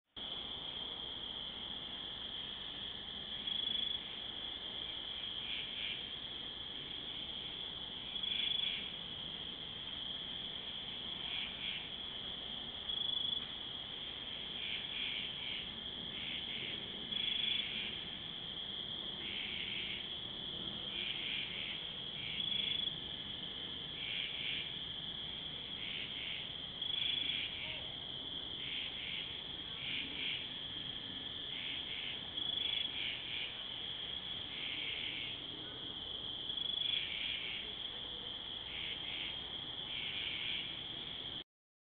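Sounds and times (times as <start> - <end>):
crickets trilling: 0.2 - 41.4
loud pulsing insect call: 0.2 - 41.4.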